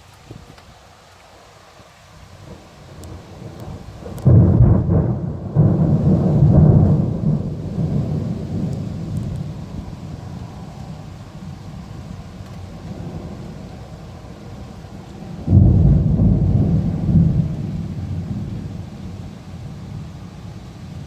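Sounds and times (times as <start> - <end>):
steady rain: 0.0 - 21.0
thunderclap and deep rumble: 2.4 - 21.0.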